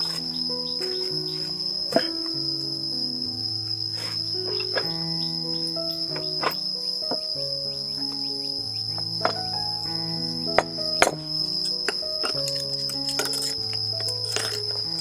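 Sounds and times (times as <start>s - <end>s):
crickets chirring: 0.0s - 15.0s
soft background music: 0.0s - 15.0s.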